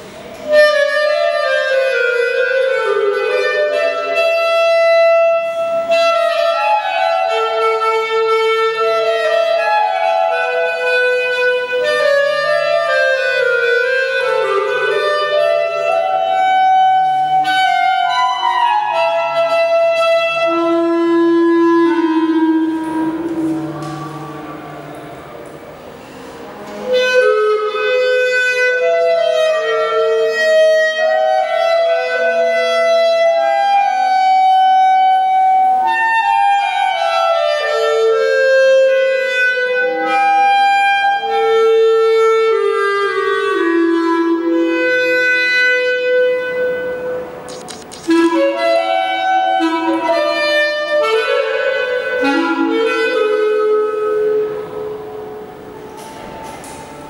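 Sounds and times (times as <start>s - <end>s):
clarinet playing a melody: 0.0s - 25.5s, 26.6s - 57.0s.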